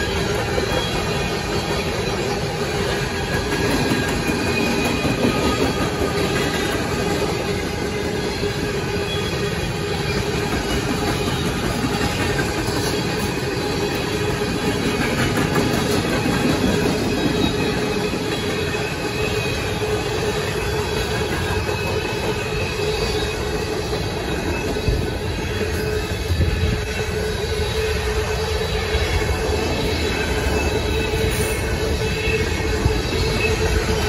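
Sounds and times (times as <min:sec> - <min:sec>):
train wheels rumbling on rail: 0:00.0 - 0:34.0
wheel squeal: 0:00.0 - 0:34.0.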